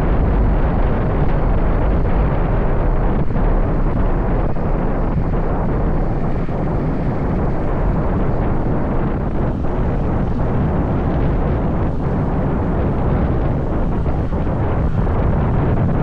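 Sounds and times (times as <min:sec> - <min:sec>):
road noise: 0:00.0 - 0:16.0
wind rumbling on microphone: 0:00.0 - 0:16.0.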